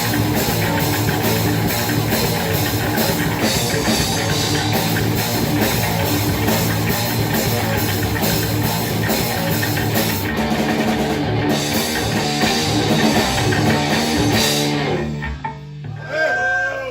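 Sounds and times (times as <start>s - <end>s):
distorted guitar: 0.0s - 16.0s
fast drums: 0.0s - 16.1s
metal band playing: 0.0s - 16.1s.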